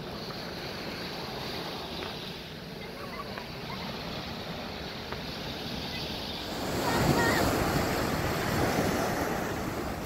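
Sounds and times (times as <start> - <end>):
small waves breaking on sand: 0.0 - 10.0
wind rumbling on microphone: 0.0 - 10.0.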